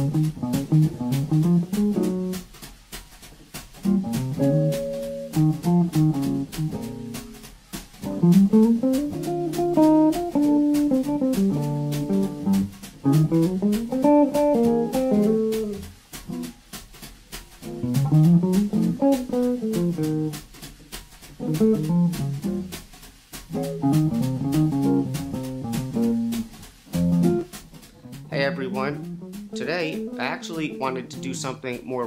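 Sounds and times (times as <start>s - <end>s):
electric guitar jazz lines: 0.0s - 2.6s, 3.8s - 16.5s, 17.6s - 20.6s, 21.2s - 22.8s, 23.5s - 32.0s.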